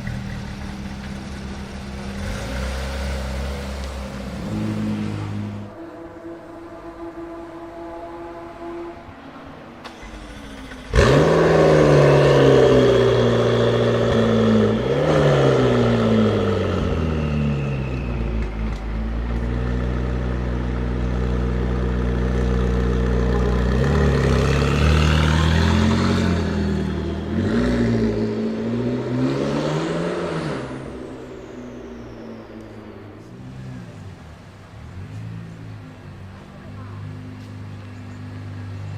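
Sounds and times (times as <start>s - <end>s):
car engine revving: 0.0s - 9.0s, 9.7s - 38.9s.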